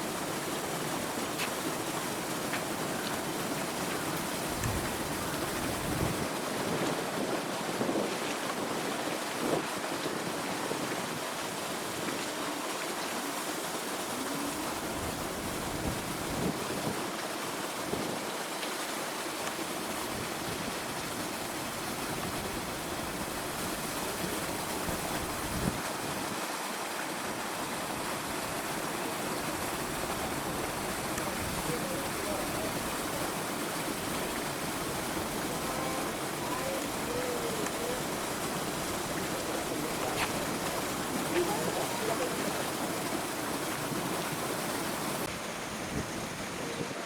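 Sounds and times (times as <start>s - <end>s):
running water rushing: 0.0s - 47.0s.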